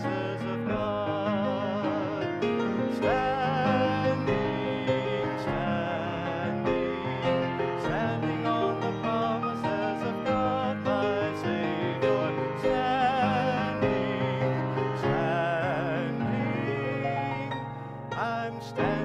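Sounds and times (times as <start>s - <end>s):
grand piano: 0.0s - 19.0s
man singing with vibrato: 0.0s - 19.0s.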